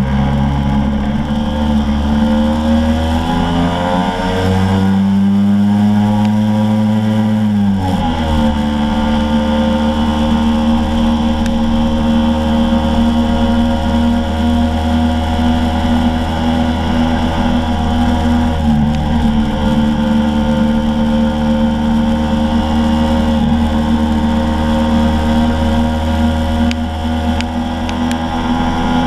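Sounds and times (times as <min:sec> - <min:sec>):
scooter engine running: 0:00.0 - 0:29.0.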